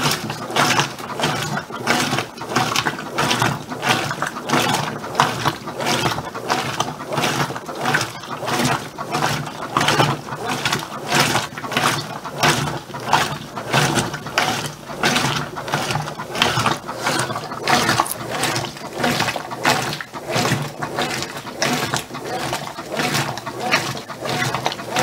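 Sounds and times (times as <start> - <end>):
washing machine motor hum: 0.0 - 25.0
water and clothes sloshing: 0.0 - 25.0.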